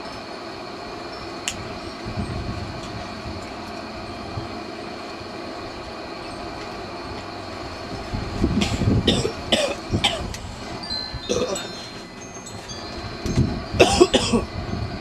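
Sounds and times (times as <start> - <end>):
faint steady tones: 0.0 - 8.5, 9.3 - 15.0.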